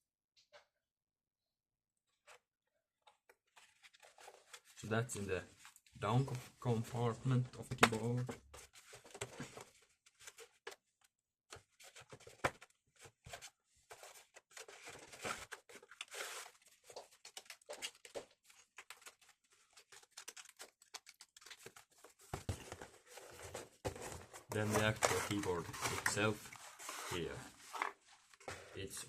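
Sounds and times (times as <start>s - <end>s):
cardboard and wrapping rustling: 3.5s - 10.9s, 11.5s - 29.0s.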